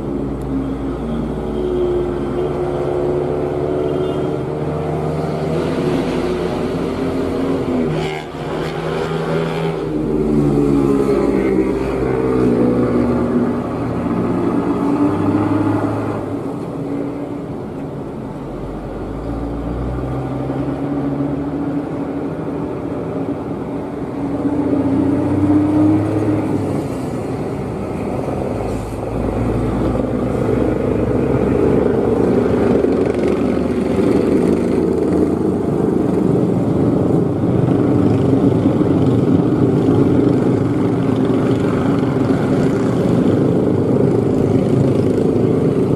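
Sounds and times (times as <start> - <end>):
truck engine running hard: 0.0 - 45.9.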